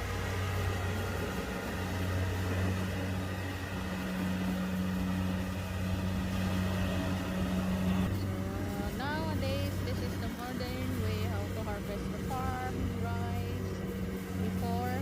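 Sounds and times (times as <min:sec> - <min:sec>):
combine harvester engine running: 0:00.0 - 0:15.0.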